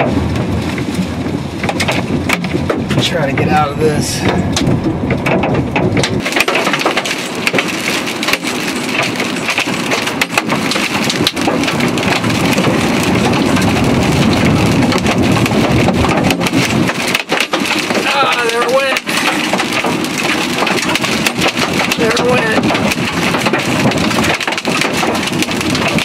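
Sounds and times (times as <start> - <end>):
hail and rain on car roof: 0.0 - 26.0
sharp cracks of hailstones: 0.0 - 26.0.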